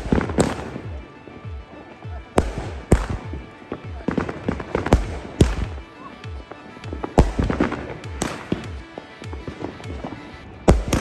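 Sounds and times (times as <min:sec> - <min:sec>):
fireworks bangs: 0:00.0 - 0:11.0
fireworks crackling pops: 0:00.0 - 0:11.0.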